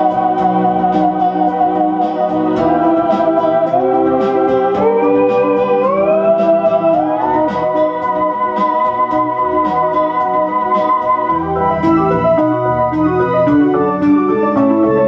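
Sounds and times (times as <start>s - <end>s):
steady electronic beat: 0.0s - 15.0s
sustained electronic chords: 0.0s - 15.0s
theremin melody: 0.0s - 15.0s.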